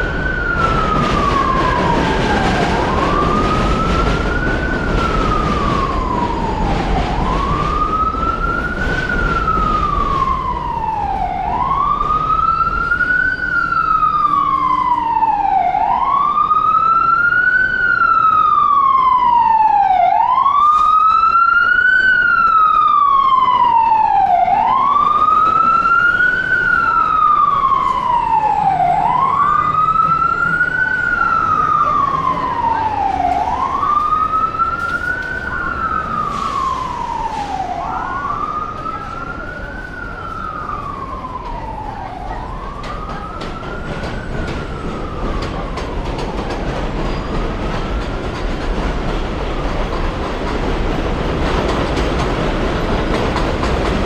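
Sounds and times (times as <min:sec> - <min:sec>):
emergency siren wailing: 0:00.0 - 0:48.4.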